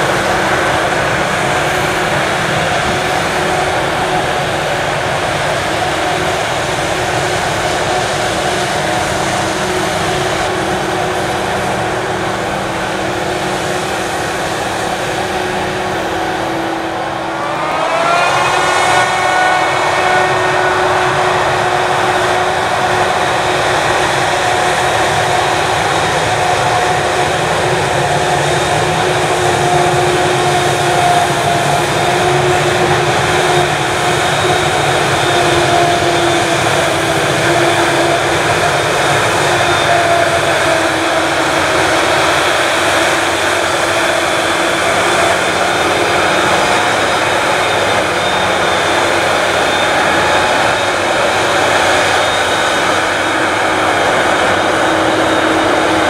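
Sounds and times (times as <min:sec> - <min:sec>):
forage harvester droning: 0:00.0 - 0:56.0.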